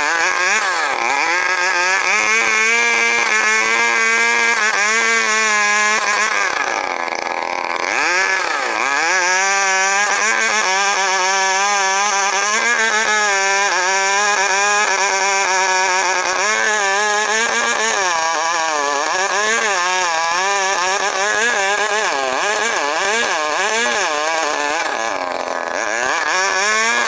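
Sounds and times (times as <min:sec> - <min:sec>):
chainsaw cutting log: 0:00.0 - 0:27.0.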